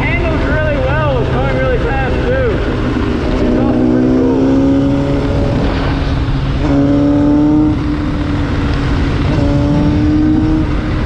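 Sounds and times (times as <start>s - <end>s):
motorcycle engine running: 0.0s - 11.0s
wind rumble on microphone: 0.0s - 11.0s.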